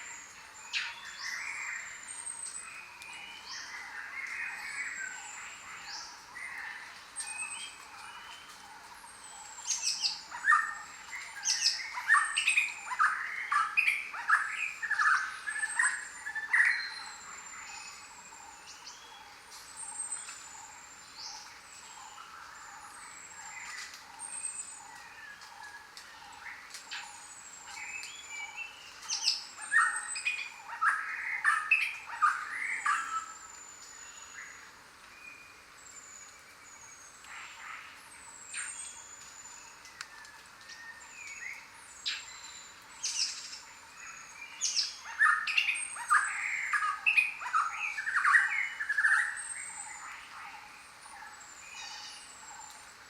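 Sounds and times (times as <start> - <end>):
background hiss: 0.0 - 53.0.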